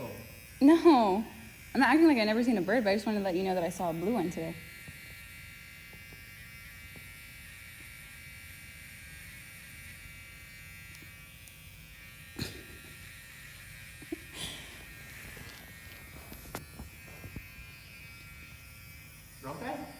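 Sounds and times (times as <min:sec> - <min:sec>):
electrical buzz: 0:00.0 - 0:19.9.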